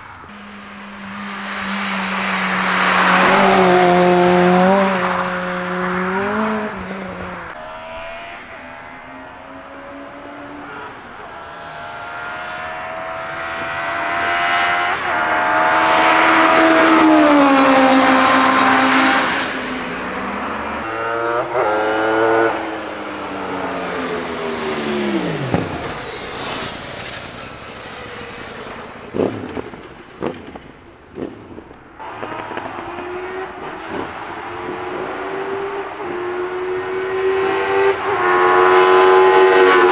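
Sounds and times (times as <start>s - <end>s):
racing car engine revving past: 0.3s - 39.9s.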